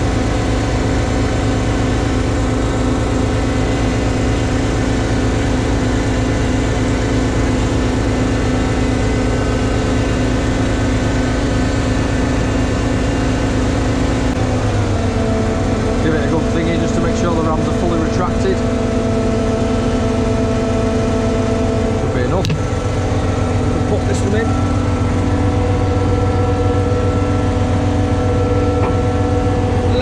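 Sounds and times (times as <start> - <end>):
crane diesel engine idling: 0.0 - 30.0.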